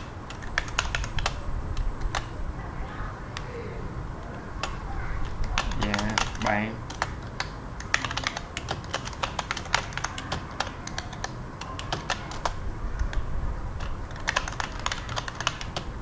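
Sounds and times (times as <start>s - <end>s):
computer keyboard typing: 0.0s - 2.3s, 4.6s - 16.0s.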